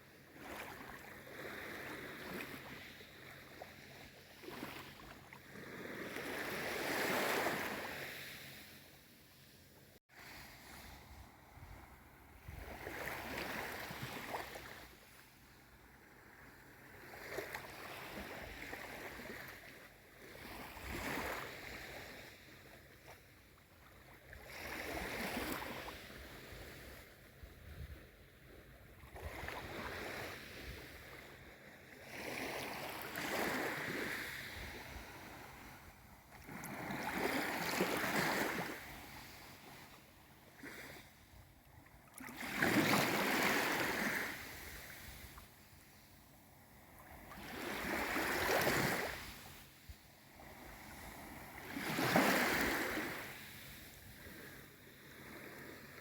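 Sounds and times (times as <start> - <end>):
small waves lapping ashore: 0.0 - 56.0.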